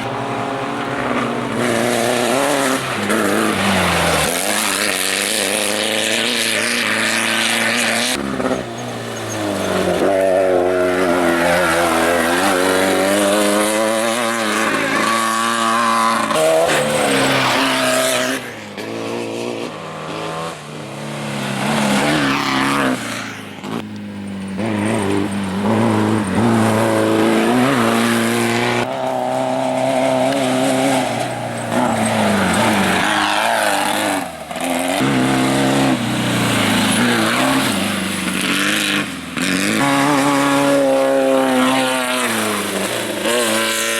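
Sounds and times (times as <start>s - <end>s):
race vehicle engines revving: 0.0s - 43.9s.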